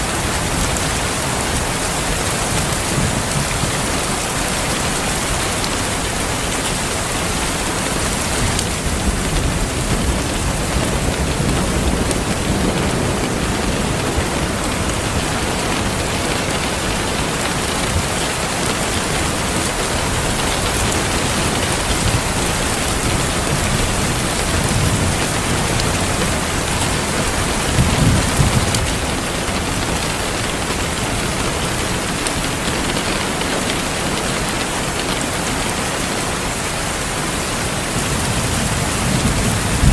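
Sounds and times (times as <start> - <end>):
heavy rain: 0.0 - 39.9
rolling thunder: 0.2 - 30.9, 37.8 - 39.9.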